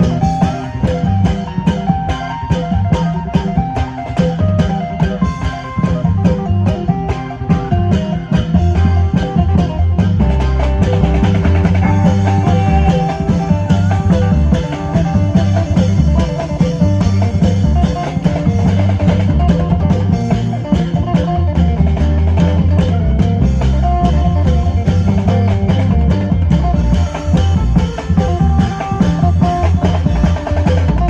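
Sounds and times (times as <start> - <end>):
drums: 0.0 - 31.0
heavy bass line: 0.0 - 31.0
plucked electric lute melody: 0.0 - 31.0.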